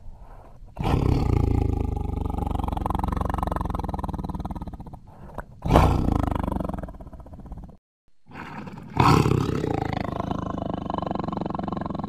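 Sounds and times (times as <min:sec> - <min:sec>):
big cat roaring: 0:00.8 - 0:12.0.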